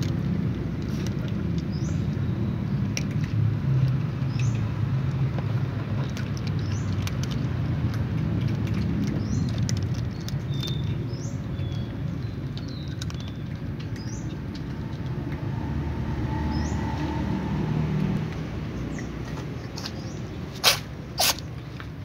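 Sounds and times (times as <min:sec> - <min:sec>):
cats chewing dry kibble: 0:00.0 - 0:15.6, 0:17.3 - 0:22.0.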